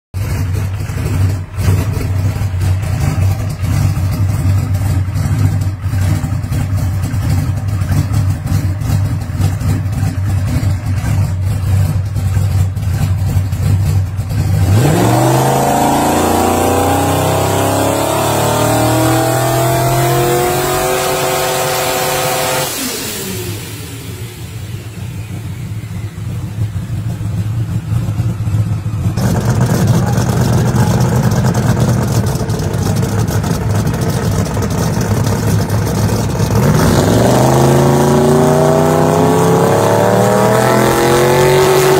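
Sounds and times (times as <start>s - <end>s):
engine idling and revving: 0.1s - 41.9s.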